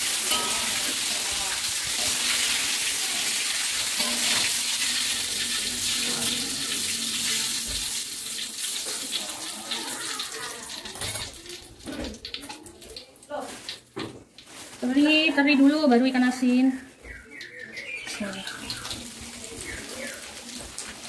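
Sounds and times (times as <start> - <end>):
food sizzling in hot oil: 0.0 - 15.1, 17.4 - 21.0.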